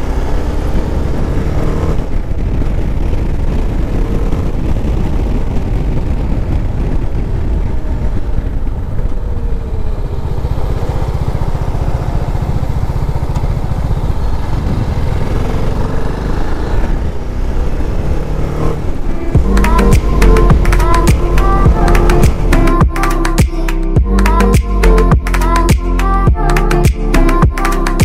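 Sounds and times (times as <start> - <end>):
motorcycle engine: 0.0 - 28.0
wind rumble on microphone: 0.0 - 28.0.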